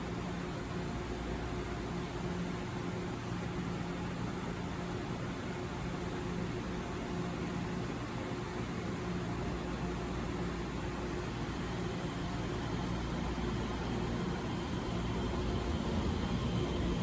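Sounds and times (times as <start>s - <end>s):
faint constant hum: 0.0s - 17.0s.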